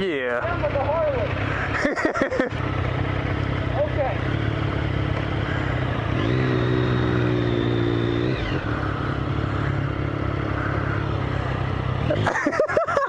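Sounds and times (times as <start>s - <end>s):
motorcycle engine under throttle: 0.0s - 13.0s
wind and road noise: 0.0s - 13.0s.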